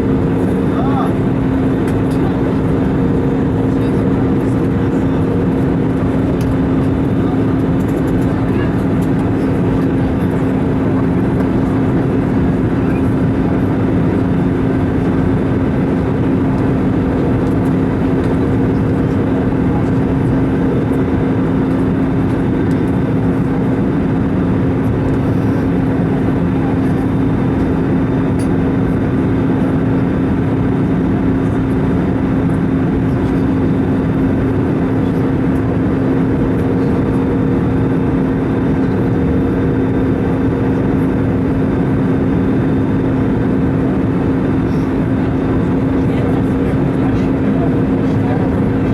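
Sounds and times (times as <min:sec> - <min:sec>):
constant low hum: 0:00.0 - 0:48.9
engines and airflow rushing: 0:00.0 - 0:48.9.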